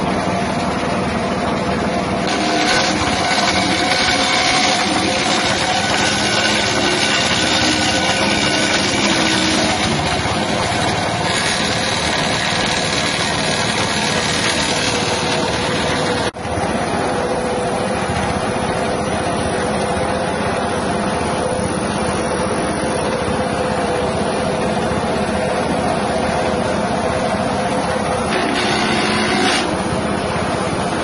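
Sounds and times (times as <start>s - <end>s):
petrol engine running: 0.0s - 31.0s.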